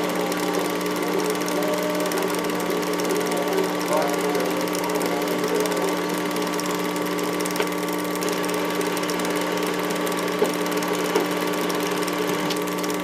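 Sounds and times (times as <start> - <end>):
film projector whirring: 0.0 - 13.0.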